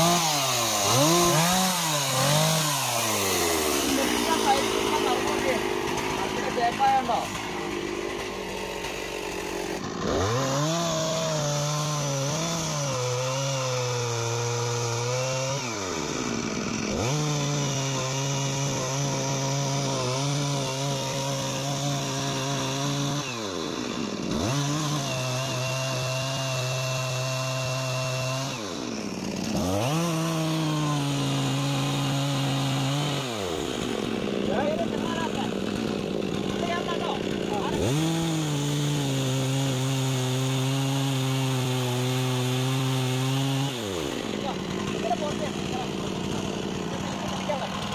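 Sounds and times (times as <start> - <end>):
chainsaw revving and idling: 0.0 - 47.9.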